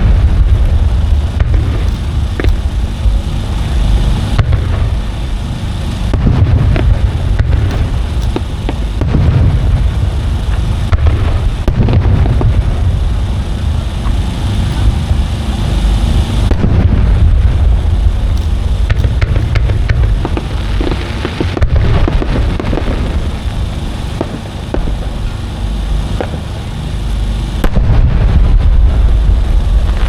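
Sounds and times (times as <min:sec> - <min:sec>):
firework shells booming: 0:00.0 - 0:26.9, 0:27.6 - 0:30.0
firework sharp cracks: 0:00.0 - 0:30.0.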